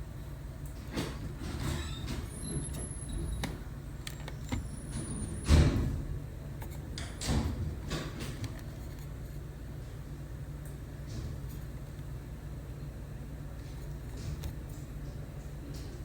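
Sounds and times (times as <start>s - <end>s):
air conditioner fan hum: 0.0s - 16.0s.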